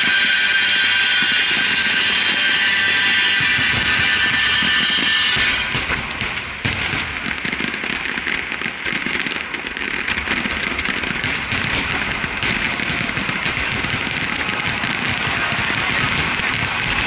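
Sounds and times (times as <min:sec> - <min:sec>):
fireworks crackling and cracking: 0:00.0 - 0:17.0.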